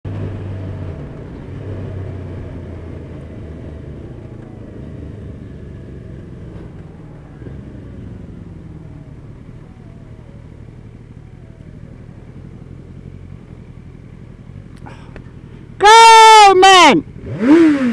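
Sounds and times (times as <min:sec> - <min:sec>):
motorcycle engine rumbling: 0:00.1 - 0:17.9.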